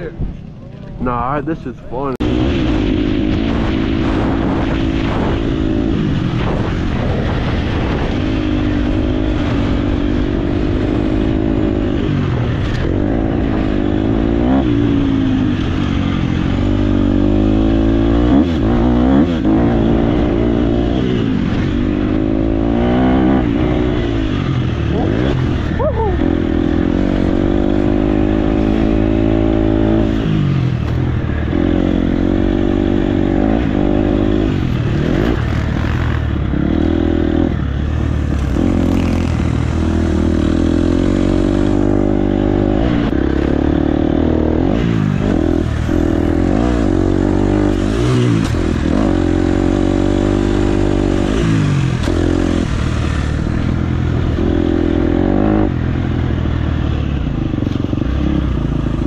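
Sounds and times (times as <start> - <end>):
dirt bike engine revving: 1.2 - 59.0.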